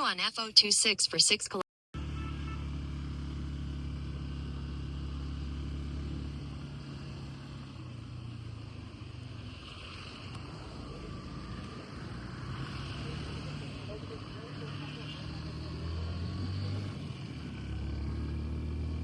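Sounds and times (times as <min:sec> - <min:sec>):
road noise: 0:00.0 - 0:19.0
vehicle engine running: 0:02.0 - 0:19.0.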